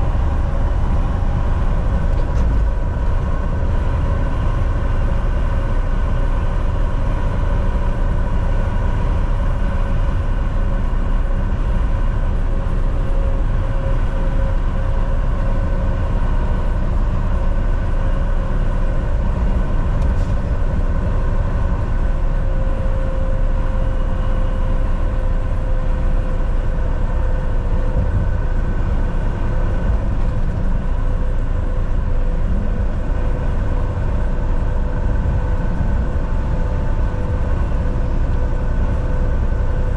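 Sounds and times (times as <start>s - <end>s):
drivetrain whine: 0.0s - 39.9s
truck engine and tyre rumble: 0.0s - 39.9s.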